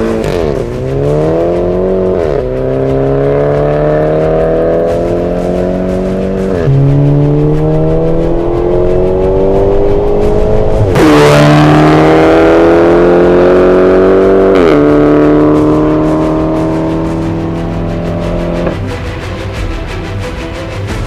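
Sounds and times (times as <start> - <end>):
car engine accelerating hard: 0.0 - 18.9.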